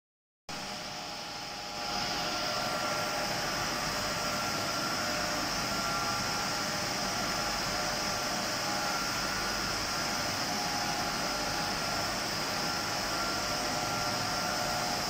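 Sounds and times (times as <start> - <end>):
extrusion machinery hiss and hum: 0.5 - 15.0.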